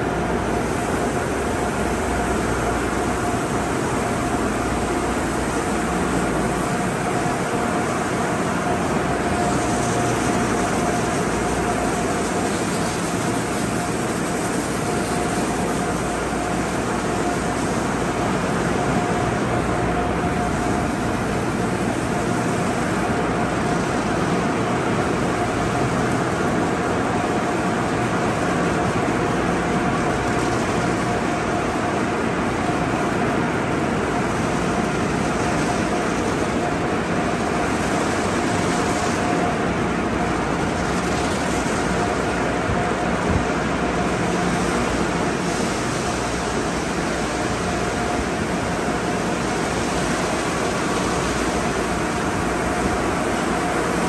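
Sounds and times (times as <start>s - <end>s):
machinery whine: 0.0s - 54.0s
water spraying: 0.0s - 54.0s.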